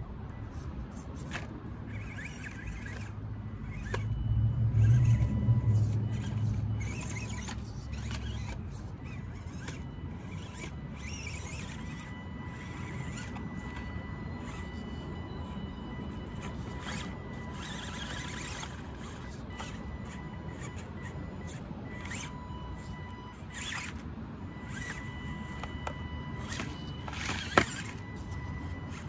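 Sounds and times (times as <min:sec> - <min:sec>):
rc car motor whining: 0:00.0 - 0:29.0.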